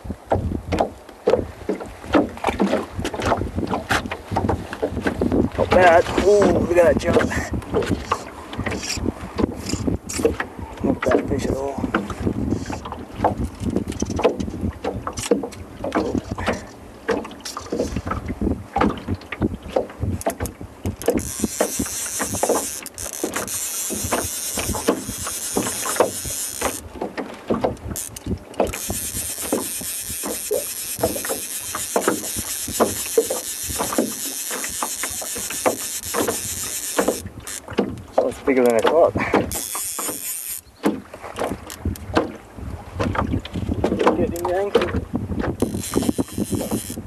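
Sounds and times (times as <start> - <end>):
water lapping and splashing: 0.0 - 47.0.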